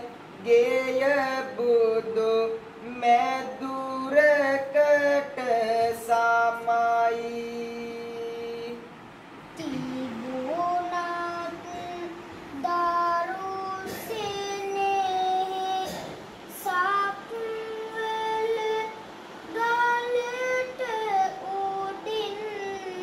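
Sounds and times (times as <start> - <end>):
boy singing unaccompanied: 0.0 - 8.9, 9.6 - 23.0.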